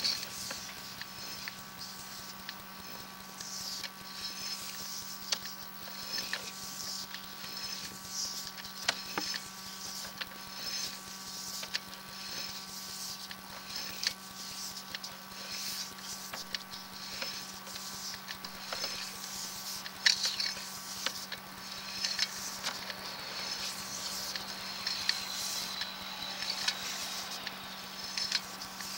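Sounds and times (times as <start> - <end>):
camera scraping and clicking in pipe: 0.0 - 28.9
electrical hum: 0.0 - 28.9.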